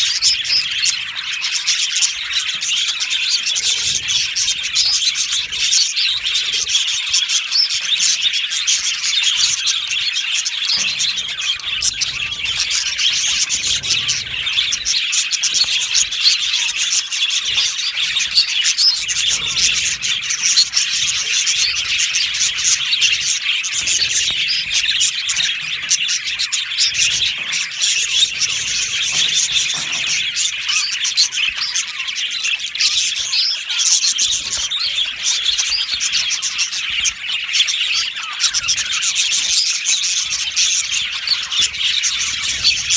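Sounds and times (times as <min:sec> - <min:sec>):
flock of budgerigars chirping: 0:00.0 - 0:42.9.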